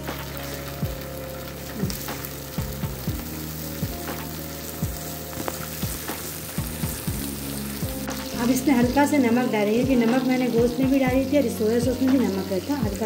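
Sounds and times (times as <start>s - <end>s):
gravy sizzling in a wok: 0.0s - 13.0s.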